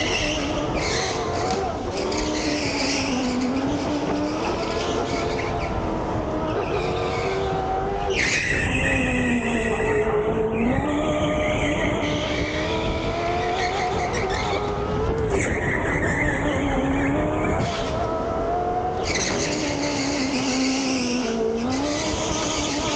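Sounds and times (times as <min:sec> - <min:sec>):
electric go-kart motor whining: 0:00.0 - 0:22.9
tyre noise on track: 0:00.0 - 0:22.9.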